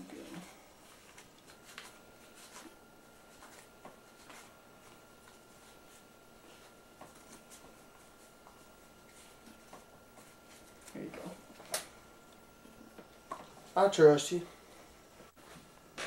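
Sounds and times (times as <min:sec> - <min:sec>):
faint high electrical tone: 0:00.0 - 0:16.0.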